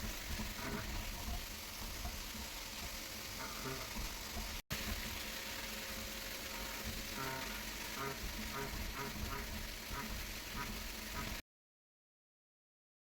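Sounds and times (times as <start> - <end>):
machine hissing: 0.0 - 11.4.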